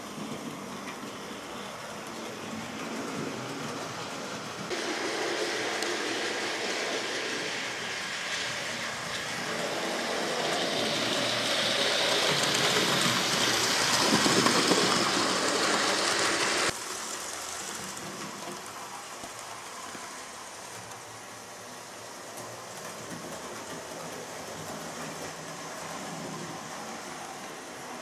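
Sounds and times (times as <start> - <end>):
wheels rattling on rails: 0.0 - 28.0
model train motor whirring: 1.0 - 28.0.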